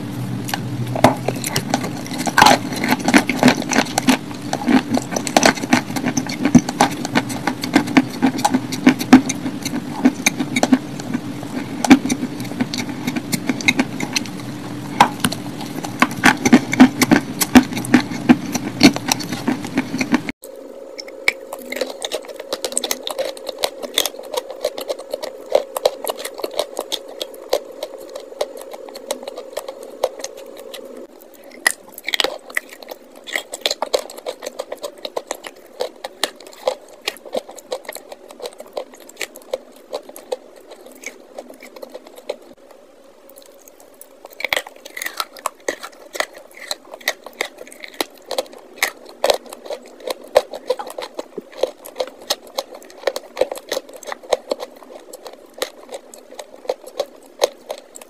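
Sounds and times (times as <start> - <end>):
chalk being chewed and crunched: 0.5 - 20.4, 21.0 - 42.6, 43.3 - 58.0.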